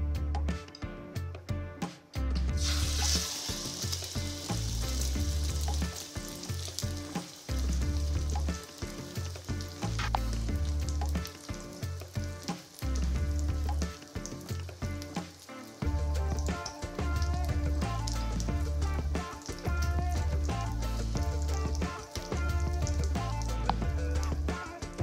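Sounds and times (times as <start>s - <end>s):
egg mixture sizzling in a pan: 2.6s - 25.0s.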